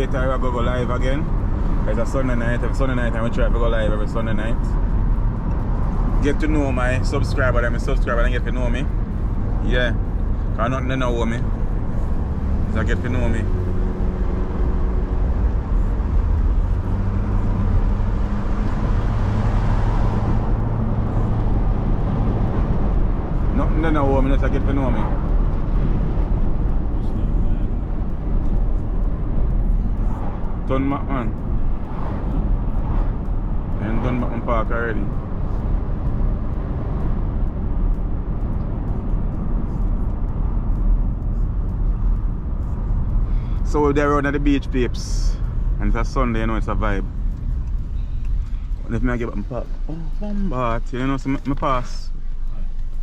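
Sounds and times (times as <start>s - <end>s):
car engine and road noise: 0.0s - 53.0s
constant low hum: 0.0s - 53.0s.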